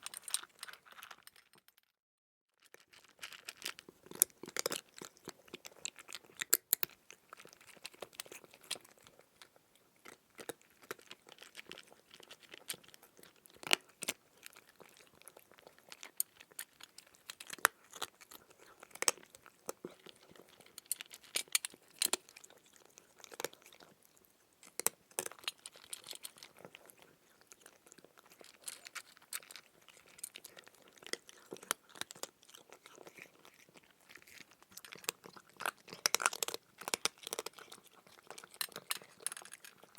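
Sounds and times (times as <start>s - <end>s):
crunchy chewing: 2.7s - 39.9s.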